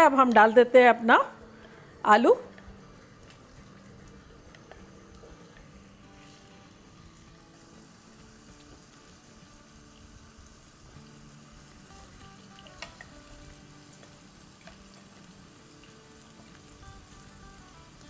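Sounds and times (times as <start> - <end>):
potatoes sizzling in hot oil: 0.0 - 18.0
soft background music: 0.0 - 18.0.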